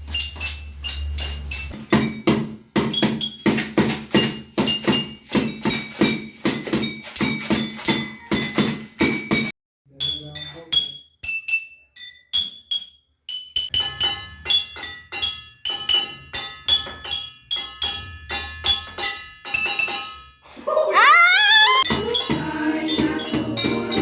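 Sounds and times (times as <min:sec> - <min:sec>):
clinking strikes on hard objects: 0:00.0 - 0:20.4, 0:21.9 - 0:24.0.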